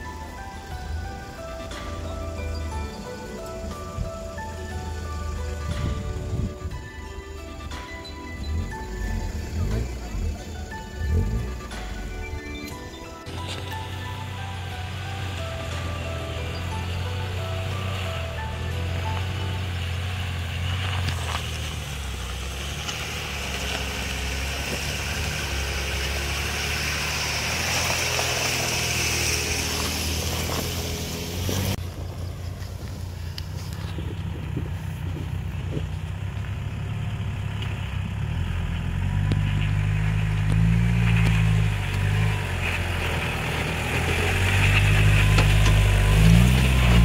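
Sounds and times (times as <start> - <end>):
off-road vehicle engines at low revs: 0.0 - 47.0.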